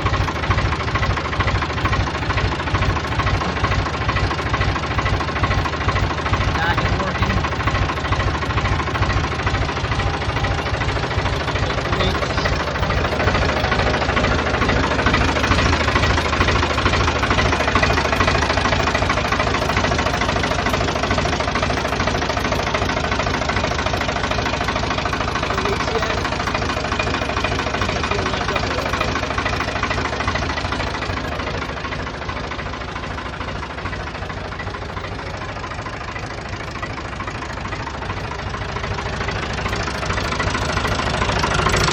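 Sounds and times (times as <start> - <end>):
diesel tractor engine clatter: 0.0 - 41.9.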